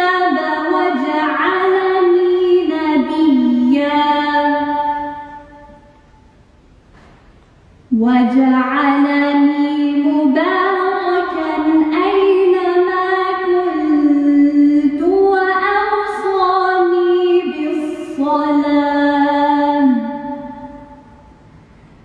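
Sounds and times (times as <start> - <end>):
woman chanting melodic recitation: 0.0 - 6.0, 7.9 - 21.1.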